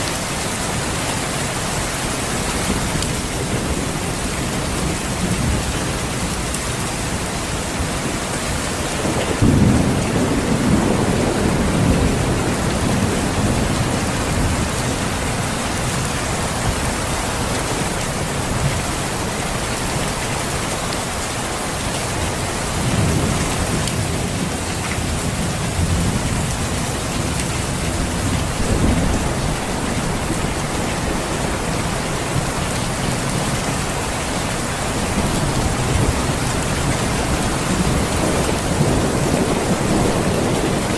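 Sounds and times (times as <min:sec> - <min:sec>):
steady rain: 0:00.0 - 0:40.9
thunder rumbling: 0:00.3 - 0:21.2, 0:22.1 - 0:40.9.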